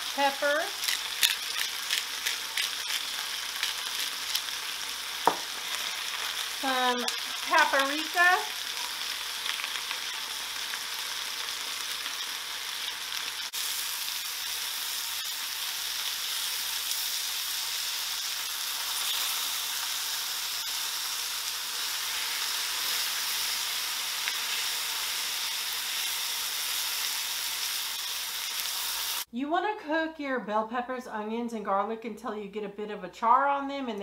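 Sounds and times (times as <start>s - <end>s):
vegetables sizzling in oil: 0.0s - 29.3s.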